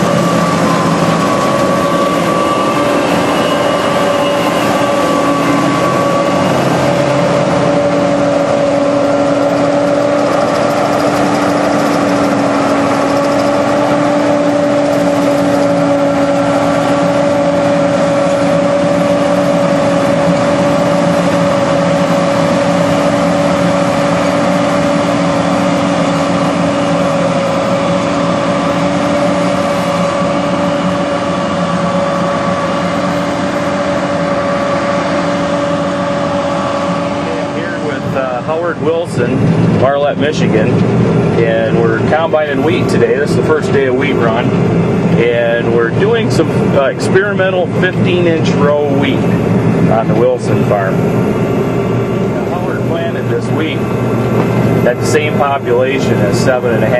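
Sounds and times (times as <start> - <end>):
combine harvester engine droning: 0.0 - 56.9.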